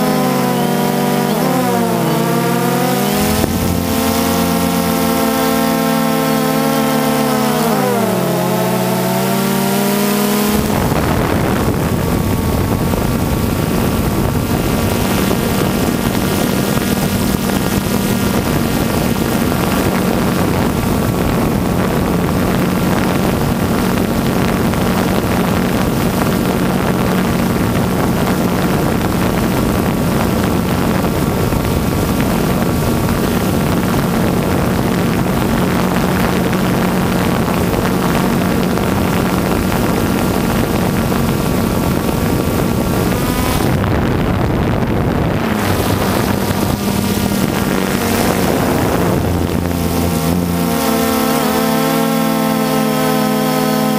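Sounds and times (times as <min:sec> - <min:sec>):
drone motors humming: 0:00.0 - 0:53.9.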